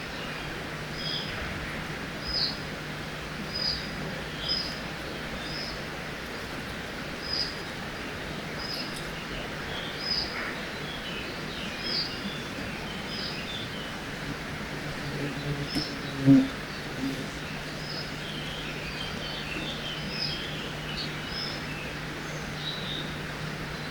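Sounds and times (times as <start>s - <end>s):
birds chirping softly: 0.0s - 23.9s.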